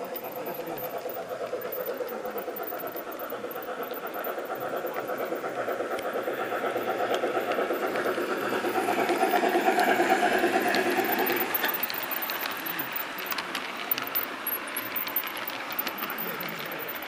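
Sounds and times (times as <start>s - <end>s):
model steam locomotive running: 0.0s - 17.0s.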